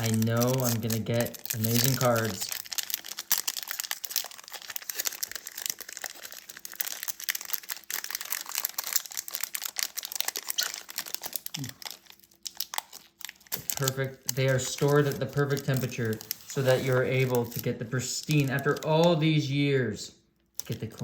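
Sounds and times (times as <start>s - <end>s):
foil wrapper crinkling and tearing: 0.0s - 19.3s, 20.5s - 21.0s.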